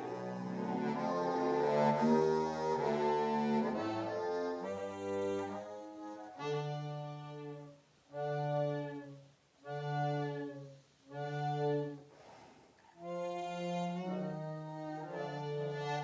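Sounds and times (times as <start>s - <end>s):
bass harmonica notes with reverb: 0.0s - 12.0s, 13.0s - 16.0s.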